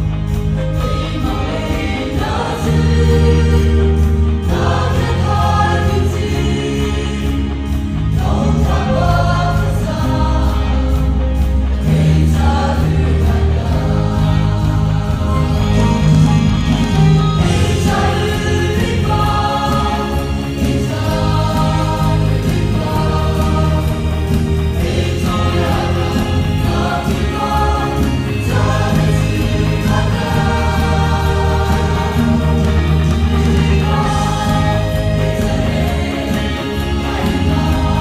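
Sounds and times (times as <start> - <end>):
mixed choir singing gospel: 0.0 - 38.0.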